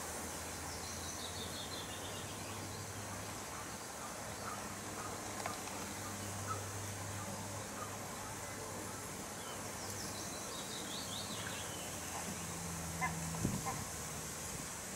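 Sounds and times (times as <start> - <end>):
songbird singing: 0.0 - 14.1
outdoor background hiss: 0.0 - 14.9.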